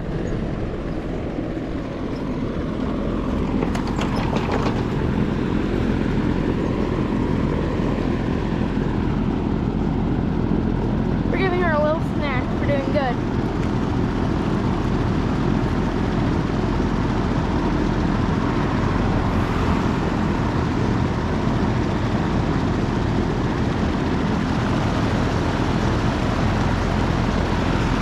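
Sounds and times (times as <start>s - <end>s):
drum fan running: 0.0s - 28.0s.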